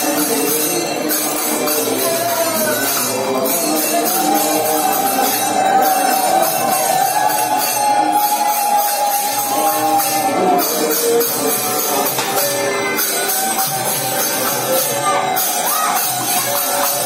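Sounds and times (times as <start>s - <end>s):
jingling cymbals: 0.0s - 17.0s.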